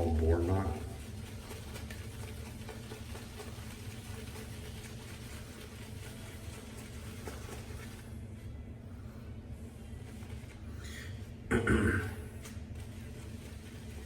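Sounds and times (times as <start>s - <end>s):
shaving brush swishing on soap: 0.0s - 11.4s, 12.3s - 14.0s
steady low hum: 0.0s - 14.0s.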